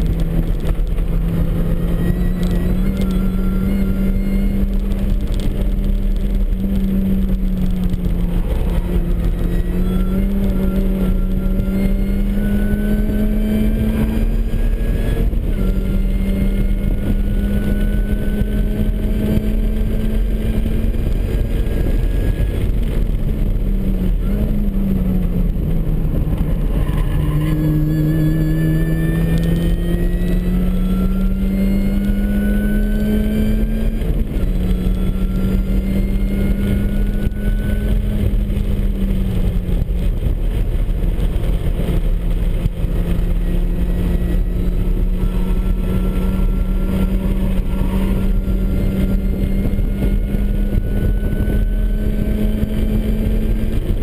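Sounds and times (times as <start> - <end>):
car engine revving under load: 0.0 - 54.0
supercharger whine: 0.0 - 54.0.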